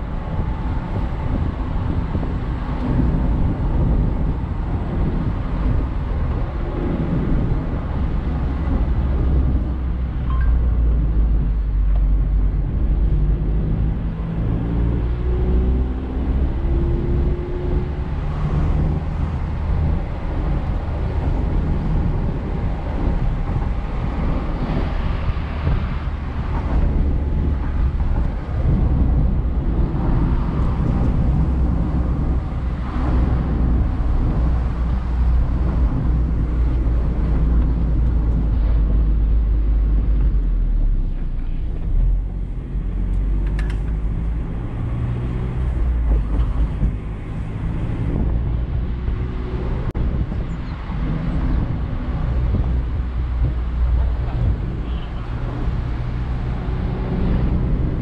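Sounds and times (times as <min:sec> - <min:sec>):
car engine running while driving: 0:00.0 - 0:58.0
wind noise: 0:00.0 - 0:58.0.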